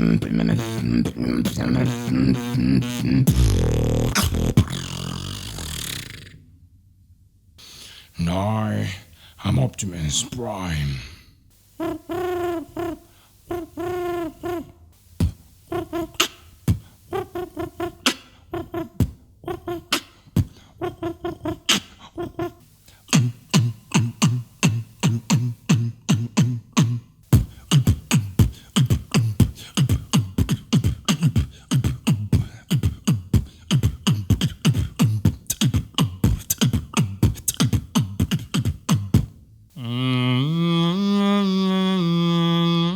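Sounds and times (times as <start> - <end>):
man beatboxing: 0.0 - 6.4, 11.8 - 40.6.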